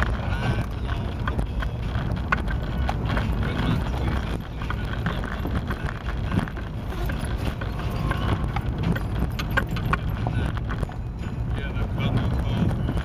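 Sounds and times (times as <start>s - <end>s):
engine and tyre rumble: 0.0s - 13.0s
small rattles: 0.0s - 13.0s
stones clicking under tyres: 0.0s - 13.0s.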